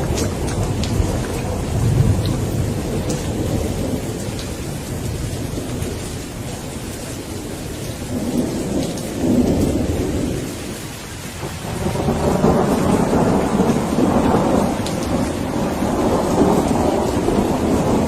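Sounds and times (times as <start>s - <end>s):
rain falling: 0.0s - 18.0s
rolling thunder: 0.0s - 18.0s.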